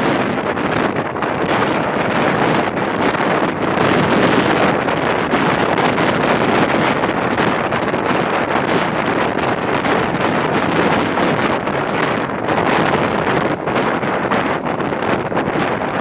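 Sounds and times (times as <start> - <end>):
train running noise: 0.0 - 16.0
wind buffeting microphone: 0.0 - 16.0.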